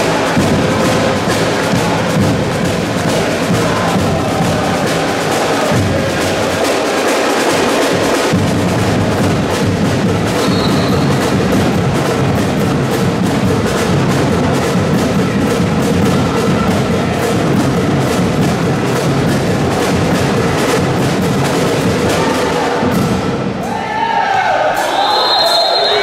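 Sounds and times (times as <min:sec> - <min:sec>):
drums beating fast rhythm: 0:00.0 - 0:23.6.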